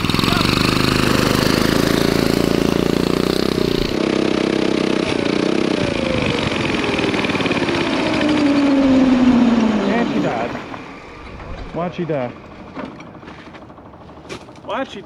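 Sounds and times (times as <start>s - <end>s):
go-kart engine running hard: 0.0s - 14.2s.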